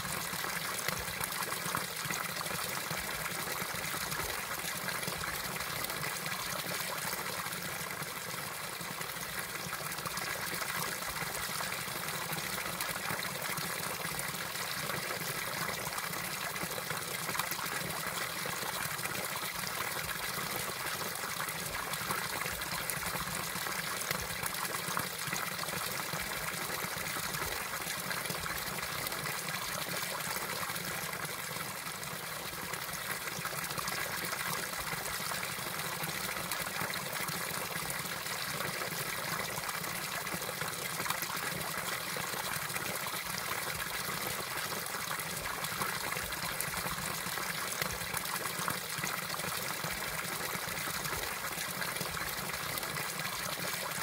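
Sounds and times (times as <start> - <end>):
water splashing into a pool: 0.0 - 54.0.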